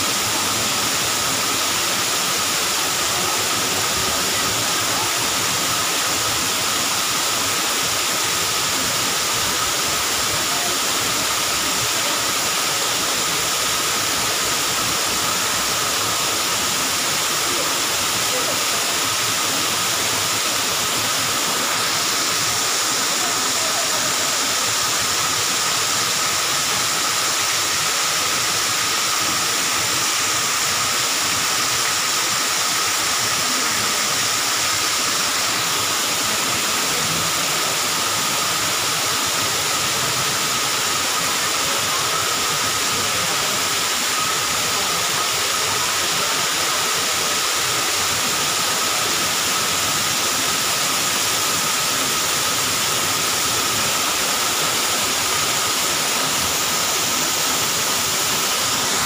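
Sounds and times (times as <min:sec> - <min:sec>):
waterfall splashing into a pool: 0:00.0 - 0:59.0.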